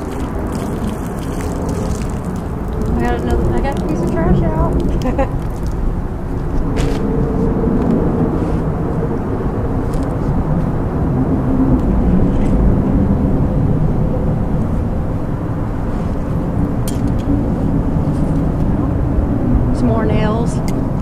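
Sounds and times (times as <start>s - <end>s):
road traffic drone: 0.0s - 21.0s.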